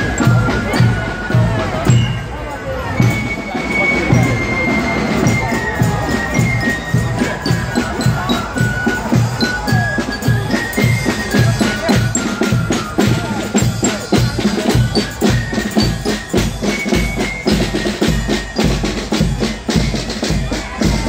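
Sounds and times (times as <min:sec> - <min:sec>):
bell-like melody: 0:00.0 - 0:21.0
drums beating march rhythm: 0:00.0 - 0:21.0
marching band music: 0:00.0 - 0:21.0.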